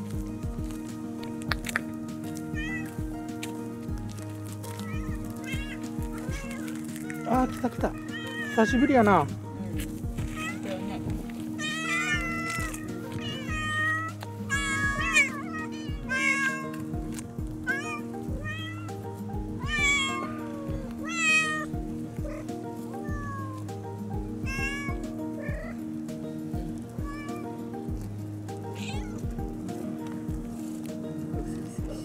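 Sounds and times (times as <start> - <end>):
background music: 0.0 - 32.0
cats meowing: 0.2 - 25.9, 26.8 - 27.7, 28.6 - 29.8.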